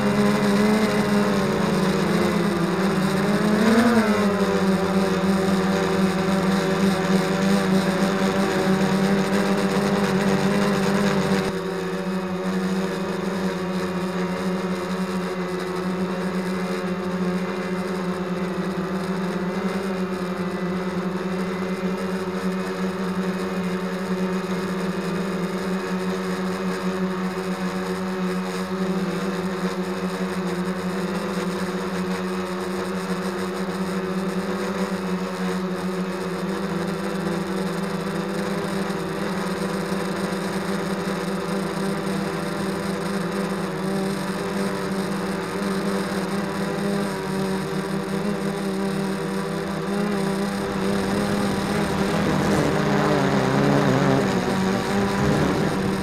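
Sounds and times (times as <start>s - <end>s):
drone propellers humming: 0.0s - 28.0s, 36.3s - 56.0s.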